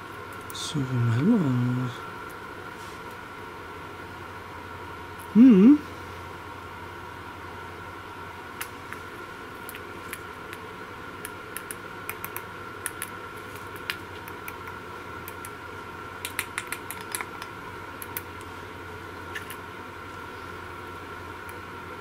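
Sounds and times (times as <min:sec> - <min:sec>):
steady high hum: 0:00.0 - 0:22.0.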